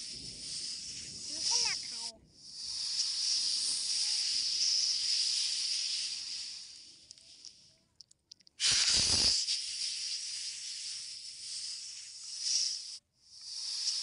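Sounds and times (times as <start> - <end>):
cobra hissing: 0.0 - 7.6, 8.6 - 14.0.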